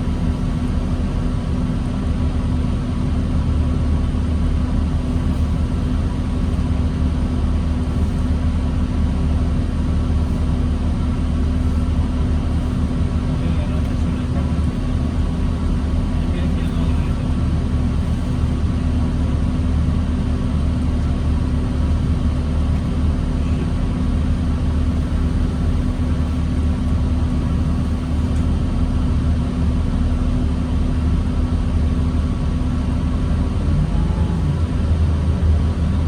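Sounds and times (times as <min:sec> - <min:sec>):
bus engine rumbling: 0:00.0 - 0:36.0.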